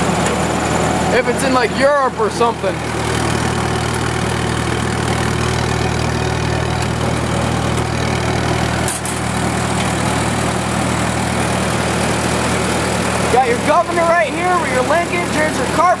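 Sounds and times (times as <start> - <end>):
generator running steadily: 0.0 - 16.0.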